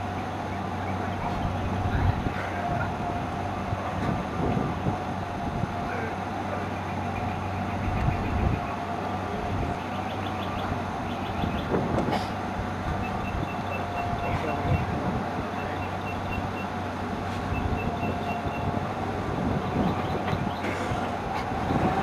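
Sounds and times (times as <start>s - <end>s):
car low rumble: 0.0s - 22.0s.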